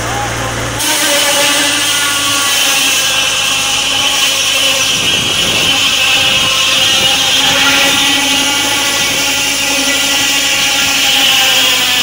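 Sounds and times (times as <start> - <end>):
engine humming: 0.0 - 12.0
circular saw cutting wood: 0.8 - 12.0.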